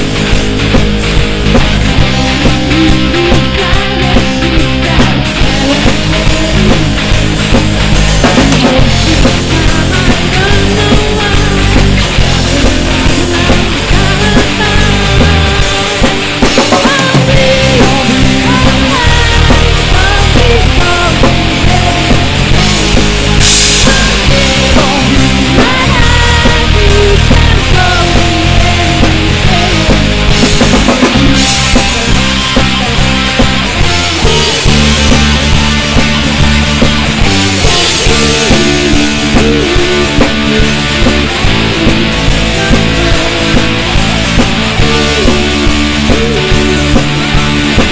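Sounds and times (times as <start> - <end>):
loud rock music: 0.0 - 47.9.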